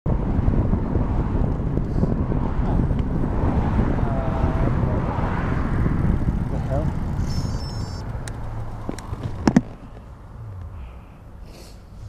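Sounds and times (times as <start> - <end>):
rolling road noise: 0.1 - 12.0
wind buffeting microphone: 0.1 - 12.0.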